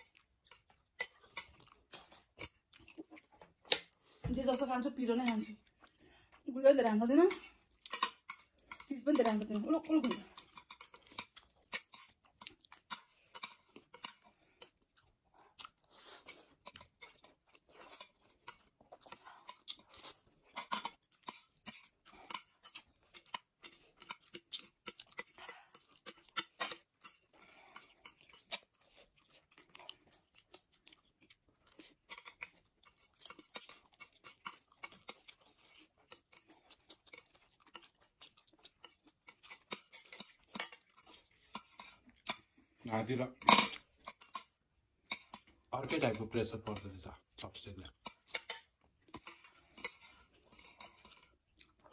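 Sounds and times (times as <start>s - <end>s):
people chewing food: 0.0s - 51.9s.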